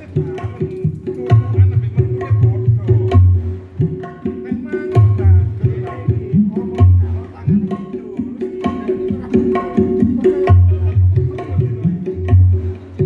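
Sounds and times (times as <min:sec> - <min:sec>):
hand drum with pitch-bending strokes: 0:00.0 - 0:13.0.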